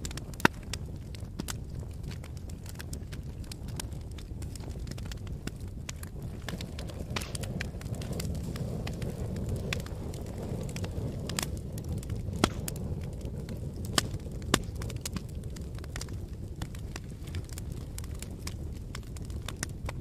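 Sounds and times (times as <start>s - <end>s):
logs popping and cracking: 0.0s - 20.0s
wood fire crackling: 0.0s - 20.0s.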